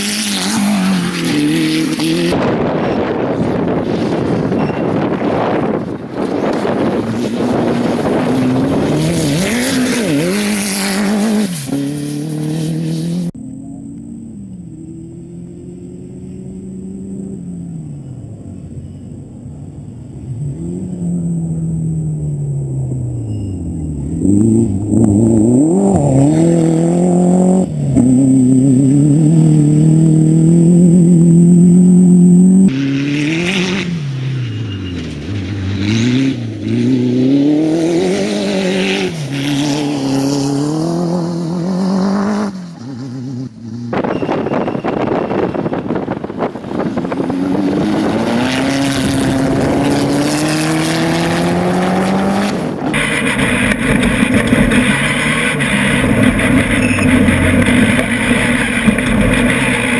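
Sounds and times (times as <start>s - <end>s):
buggy engine revving hard: 0.0s - 13.8s, 20.3s - 59.9s.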